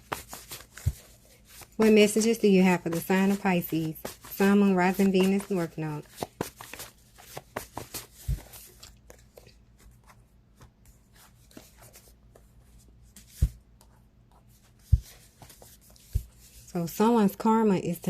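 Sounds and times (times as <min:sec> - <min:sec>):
cards being shuffled: 0:00.0 - 0:16.7.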